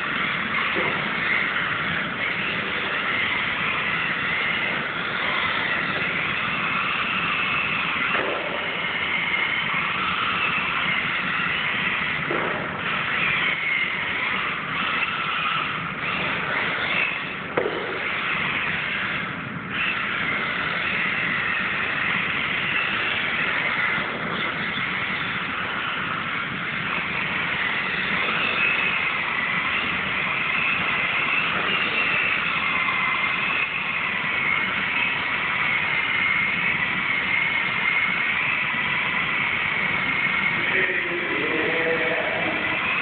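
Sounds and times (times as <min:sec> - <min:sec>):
electric motor whining: 0:00.0 - 0:43.0.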